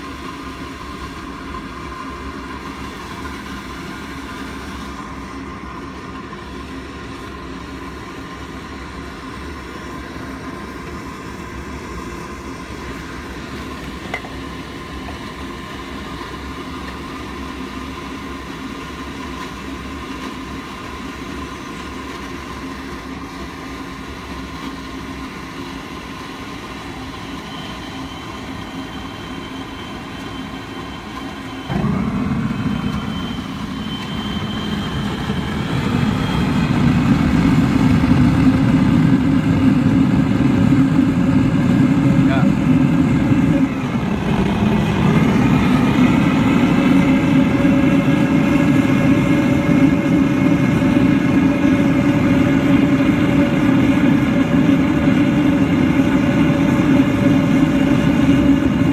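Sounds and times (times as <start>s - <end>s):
furnace burner and blower: 0.0s - 58.9s.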